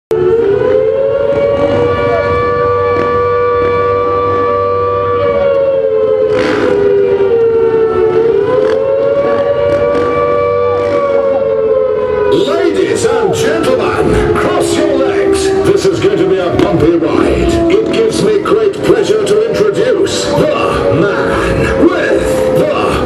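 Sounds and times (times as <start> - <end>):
siren wailing: 0.1 - 23.0.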